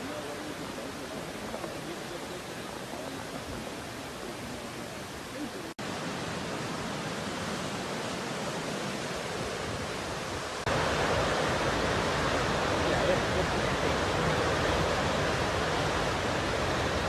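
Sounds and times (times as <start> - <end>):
fast river water rushing: 0.0 - 17.0.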